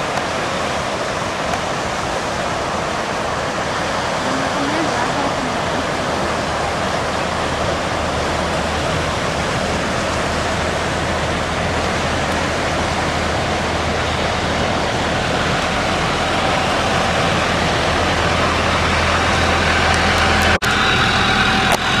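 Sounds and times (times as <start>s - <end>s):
ocean surf breaking: 0.0s - 22.0s
steady hum: 0.0s - 22.0s.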